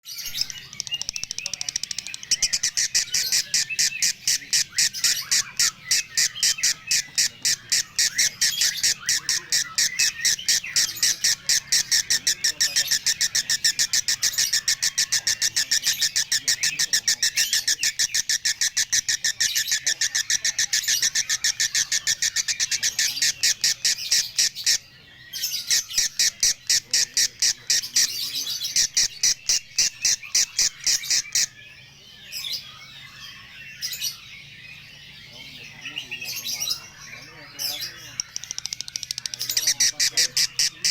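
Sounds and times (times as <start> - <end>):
bird rapid high chirps: 0.0 - 40.9.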